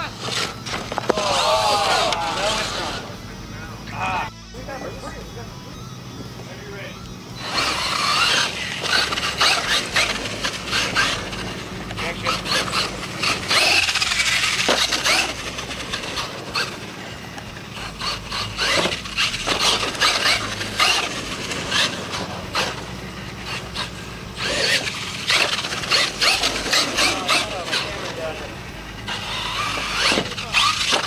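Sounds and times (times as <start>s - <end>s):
toy truck knocking and scraping: 0.0s - 3.0s, 6.9s - 31.0s
falling motor whine: 0.0s - 31.0s.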